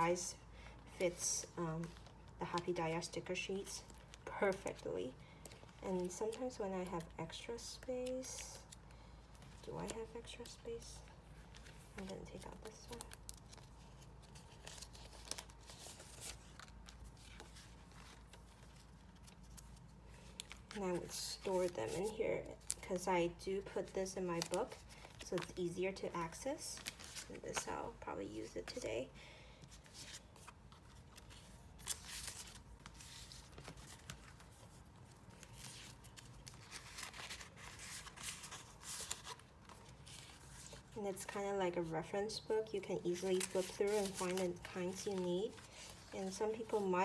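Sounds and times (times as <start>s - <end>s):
paper rustling and crinkling: 0.6s - 23.0s, 23.6s - 28.8s, 29.6s - 41.8s, 42.6s - 47.0s.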